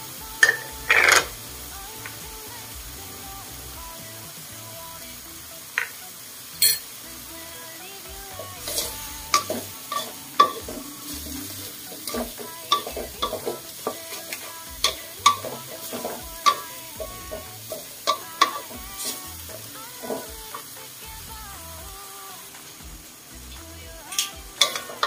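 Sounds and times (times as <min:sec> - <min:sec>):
food sizzling: 0:00.0 - 0:25.0.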